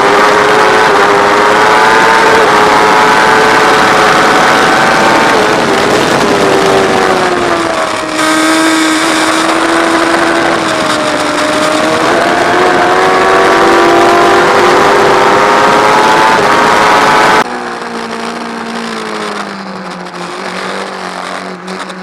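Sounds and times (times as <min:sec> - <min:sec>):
motorcycle engine running hard: 0:00.0 - 0:22.0
wind rush: 0:00.0 - 0:22.0.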